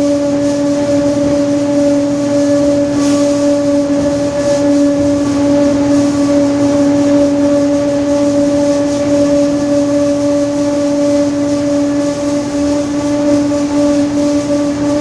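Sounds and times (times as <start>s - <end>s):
bus differential whine: 0.0s - 15.0s.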